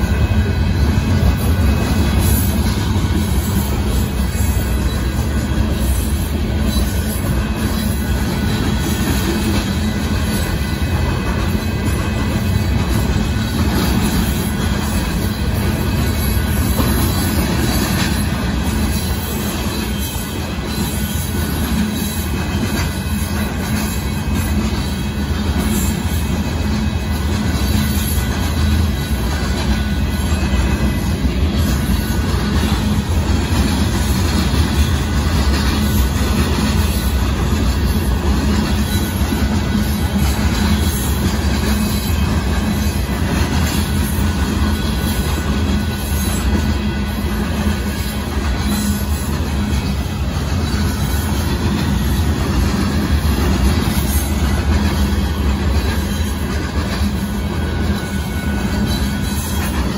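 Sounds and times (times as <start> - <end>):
freight train rolling past: 0.0 - 59.9
steel wheels rumbling on rails: 0.0 - 59.9.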